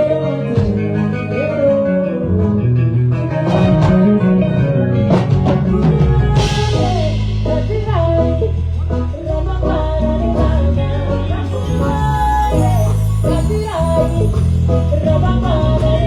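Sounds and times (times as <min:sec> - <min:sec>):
live band playing: 0:00.0 - 0:16.0
person singing: 0:00.0 - 0:16.0.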